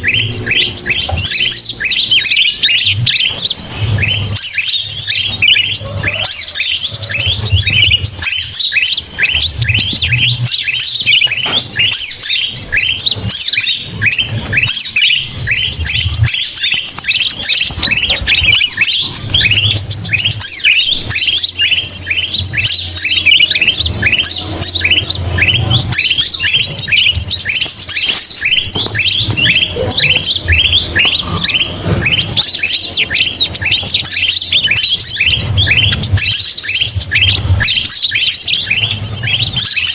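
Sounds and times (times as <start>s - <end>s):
chorus of chattering birds: 0.0s - 39.9s.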